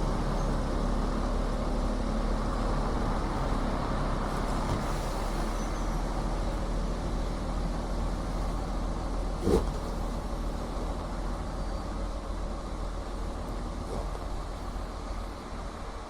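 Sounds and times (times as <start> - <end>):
road noise: 0.0 - 16.0
truck engine running: 0.0 - 16.0.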